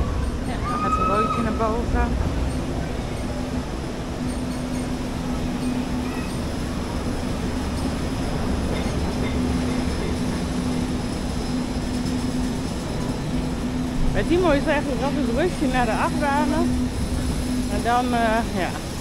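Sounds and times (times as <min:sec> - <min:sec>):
mechanical rumble with low hum: 0:00.0 - 0:19.0.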